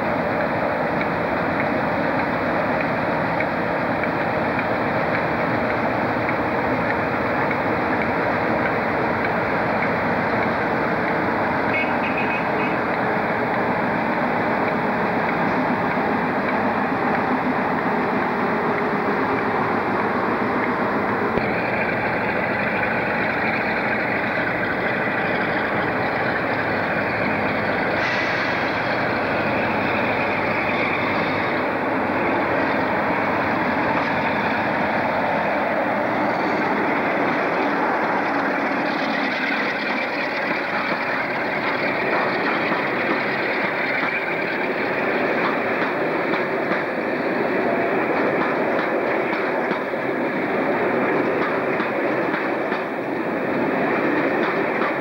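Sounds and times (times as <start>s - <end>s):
diesel locomotive engine running: 0.0s - 55.0s
train coaches rolling on rails: 0.0s - 55.0s.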